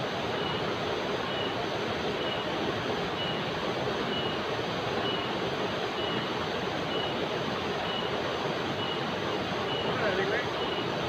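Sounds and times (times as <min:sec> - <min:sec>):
water rushing over rocks: 0:00.0 - 0:11.0
insect chirping: 0:00.3 - 0:07.2, 0:07.8 - 0:11.0.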